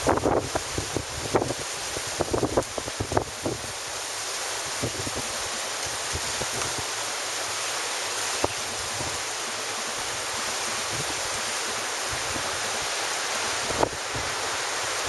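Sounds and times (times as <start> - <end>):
wind buffeting microphone: 0.0 - 3.9, 4.6 - 7.0, 8.2 - 9.4, 10.0 - 15.0
ocean surf washing ashore: 0.0 - 15.0.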